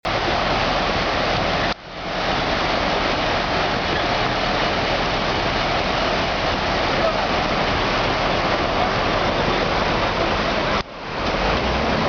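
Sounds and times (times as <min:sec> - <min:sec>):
flood water rushing: 0:00.0 - 0:12.0.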